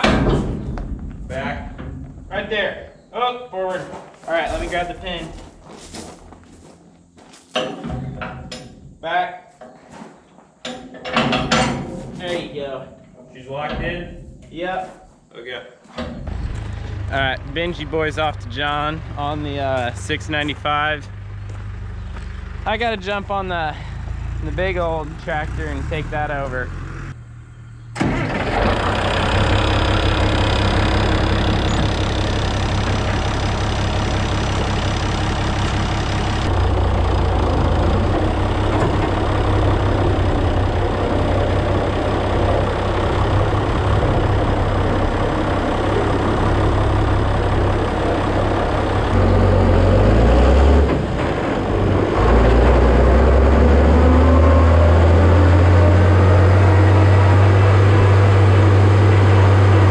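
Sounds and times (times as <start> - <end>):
tractor engine droning: 0.0 - 9.0, 16.0 - 59.9.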